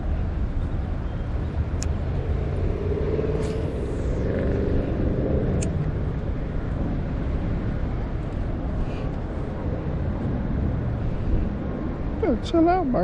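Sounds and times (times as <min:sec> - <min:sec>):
road traffic rumble: 0:00.0 - 0:13.0
passing vehicle engine: 0:01.5 - 0:12.0.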